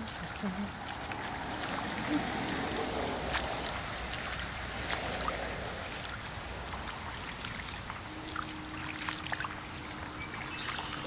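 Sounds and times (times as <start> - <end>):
running water: 0.0 - 11.0
small water splashes: 0.0 - 11.0.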